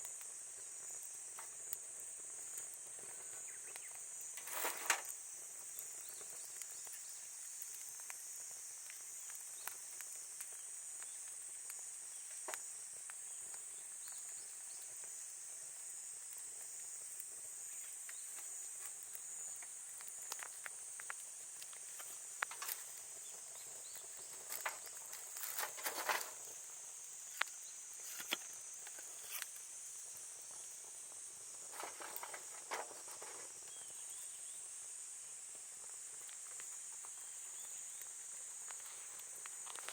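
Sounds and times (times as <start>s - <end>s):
campfire crackling: 0.0s - 39.9s
insects chorus: 0.0s - 39.9s.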